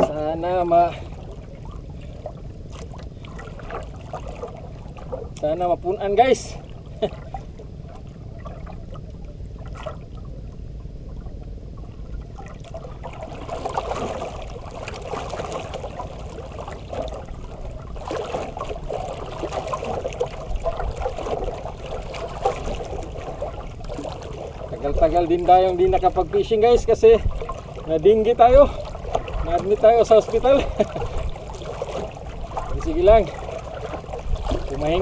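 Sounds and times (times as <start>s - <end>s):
water lapping against boat hull: 0.0s - 35.0s.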